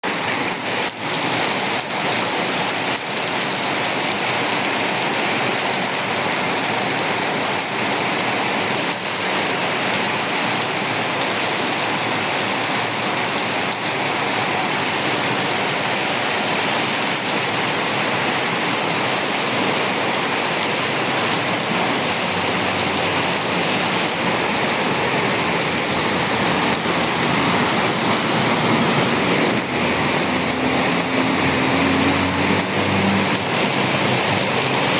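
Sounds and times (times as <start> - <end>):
heavy rain: 0.0 - 34.9
running water: 0.0 - 34.9.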